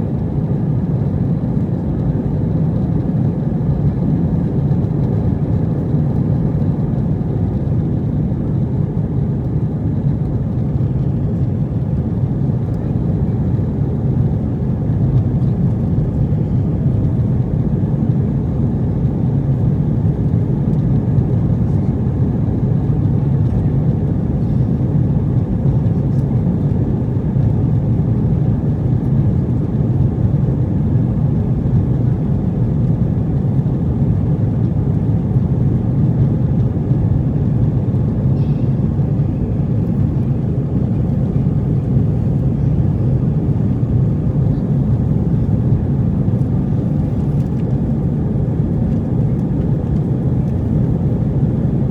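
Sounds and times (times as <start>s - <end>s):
airplane cabin engine and airflow noise: 0.0s - 51.9s.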